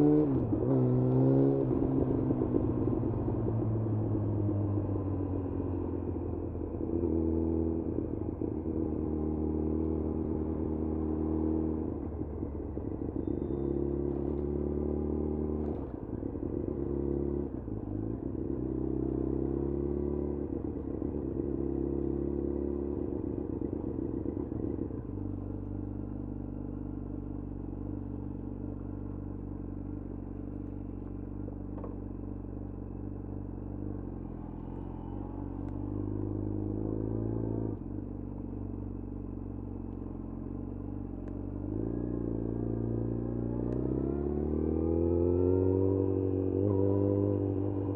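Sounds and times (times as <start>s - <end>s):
motorcycle engine revving: 0.0s - 6.1s, 6.8s - 47.9s.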